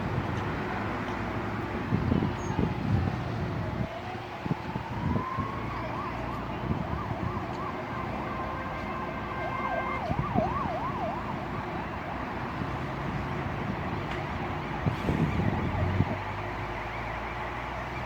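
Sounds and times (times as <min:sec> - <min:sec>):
stormy wind: 0:00.0 - 0:18.0
emergency siren yelping: 0:02.2 - 0:18.0.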